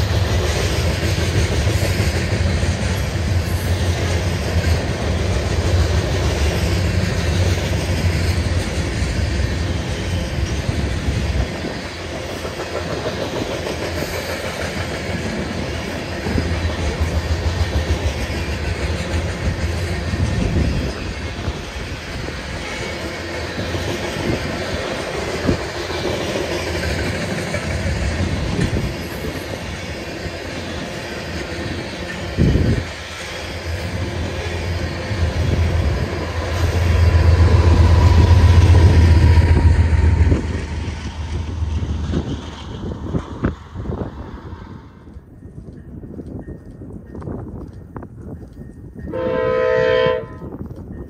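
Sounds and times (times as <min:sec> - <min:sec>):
freight train wheels on rails: 0:00.0 - 0:51.0.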